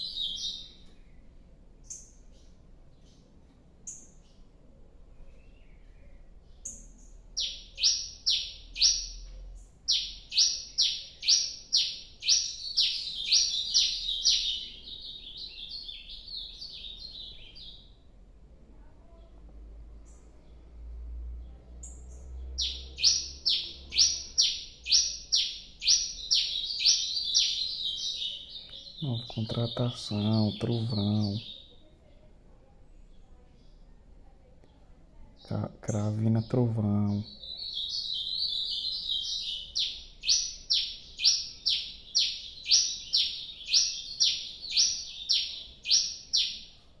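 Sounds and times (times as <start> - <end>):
songbird singing repeated notes: 0.0 - 18.2, 19.9 - 31.9, 35.4 - 47.0.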